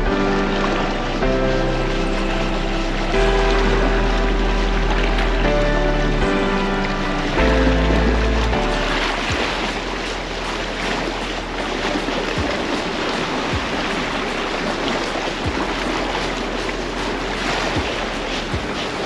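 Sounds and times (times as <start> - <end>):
waves washing against rocks: 1.7 - 19.0.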